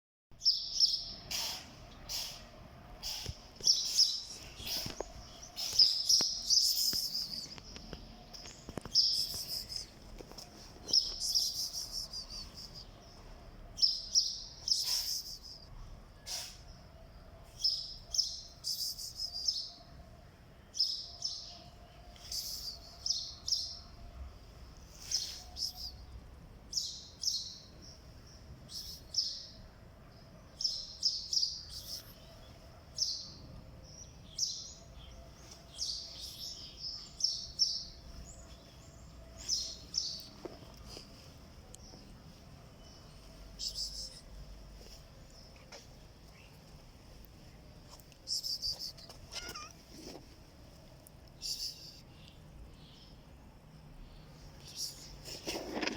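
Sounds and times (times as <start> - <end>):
small birds chirping: 0.3 - 19.9, 20.7 - 55.9.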